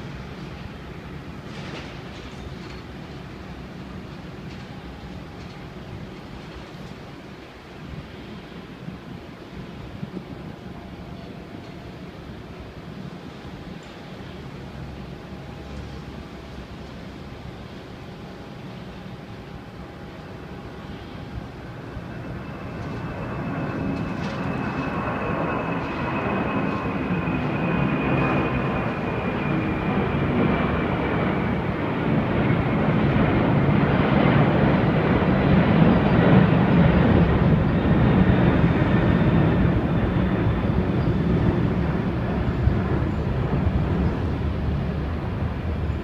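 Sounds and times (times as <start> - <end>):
deep rumbling jet noise: 0.0 - 46.0
high jet whine: 0.0 - 46.0.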